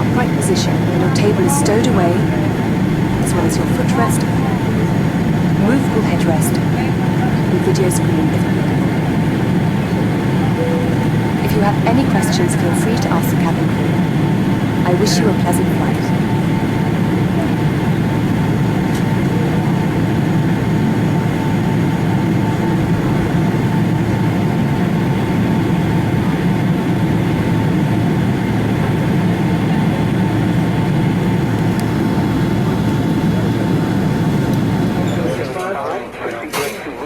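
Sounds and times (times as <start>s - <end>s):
faint steady whine: 0.0s - 35.4s
aircraft cabin low rumble: 0.0s - 35.5s.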